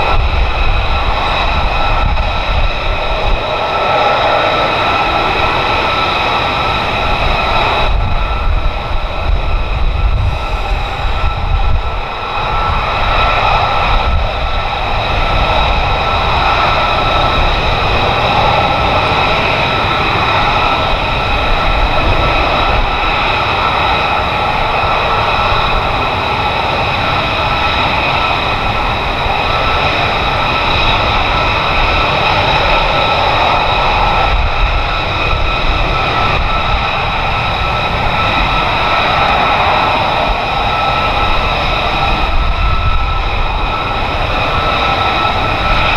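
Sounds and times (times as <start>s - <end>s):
jet engine running: 0.0s - 45.9s.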